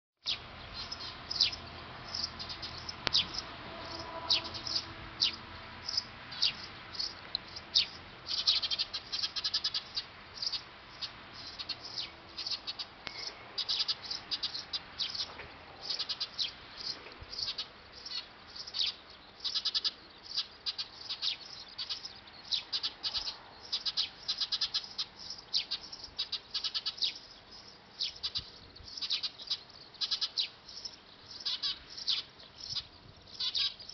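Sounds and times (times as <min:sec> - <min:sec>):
sparrows chirping: 0:00.2 - 0:33.9.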